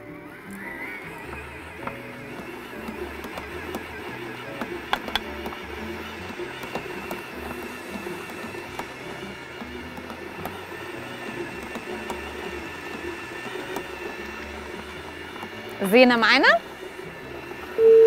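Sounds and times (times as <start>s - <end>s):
electric stand mixer running: 0.0s - 18.0s.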